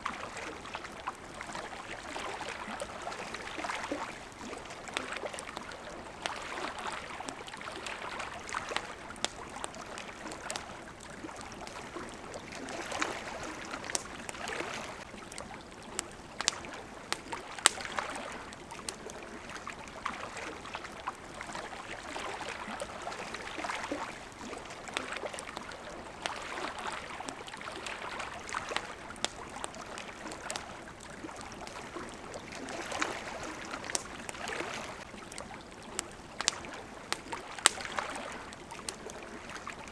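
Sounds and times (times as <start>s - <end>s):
campfire crackling and popping: 0.0s - 39.9s
water lapping at shore: 0.0s - 39.9s.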